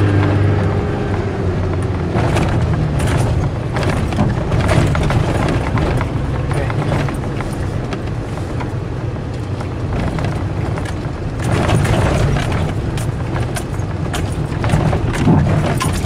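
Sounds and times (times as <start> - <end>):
car engine pulling under load: 0.0 - 16.0
body knocks and rattles: 1.7 - 16.0.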